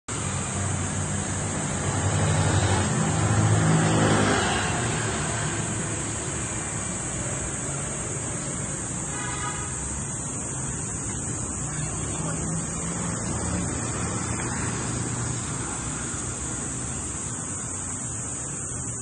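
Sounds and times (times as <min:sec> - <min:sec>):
vehicle engine passing: 0:00.1 - 0:09.1, 0:09.8 - 0:19.0.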